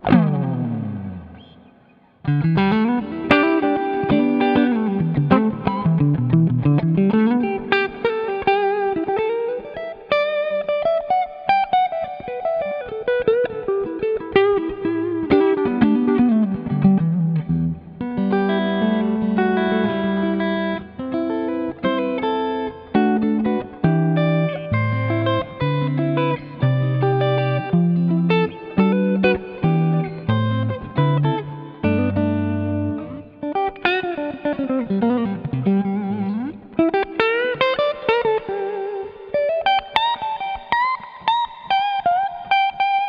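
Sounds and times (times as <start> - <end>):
electric guitar through amp: 0.0 - 43.0.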